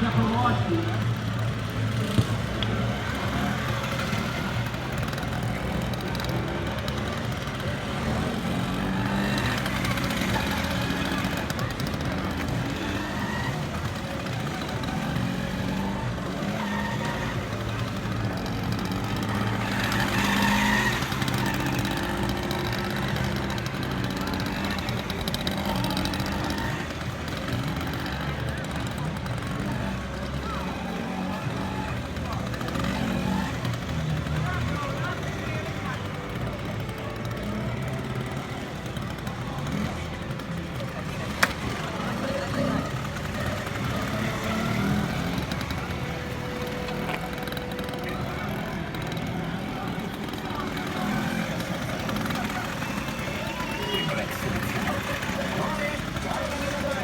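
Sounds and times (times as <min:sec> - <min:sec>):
scooter engine idling: 0:00.0 - 0:57.0.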